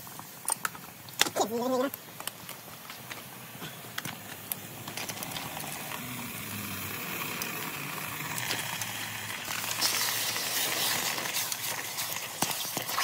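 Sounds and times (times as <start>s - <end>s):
water hissing and sizzling: 0.0s - 13.0s.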